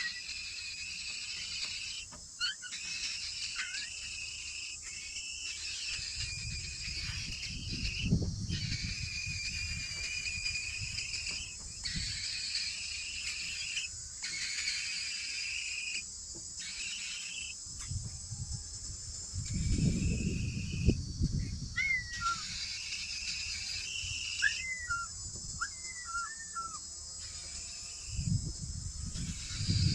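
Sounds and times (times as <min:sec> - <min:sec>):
insect chorus trilling: 0:00.0 - 0:29.9.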